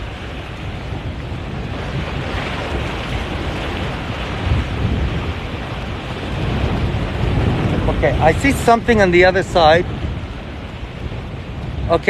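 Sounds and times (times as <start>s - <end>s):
waves and surf: 0.0s - 12.0s
wind buffeting microphone: 0.0s - 12.0s.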